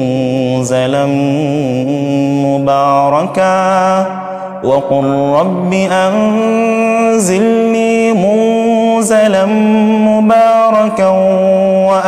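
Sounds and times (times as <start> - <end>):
man reciting melodic chant: 0.0 - 12.0.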